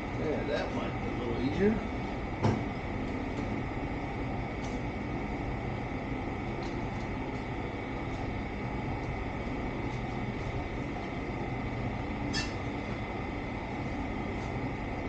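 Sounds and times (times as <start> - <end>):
mechanical drone humming: 0.0 - 15.0.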